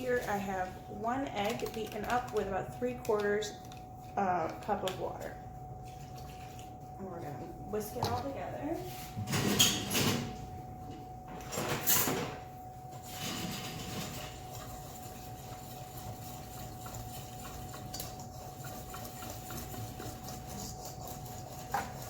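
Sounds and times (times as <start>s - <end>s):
whisk beating batter in bowl: 0.0s - 9.0s, 13.0s - 22.0s.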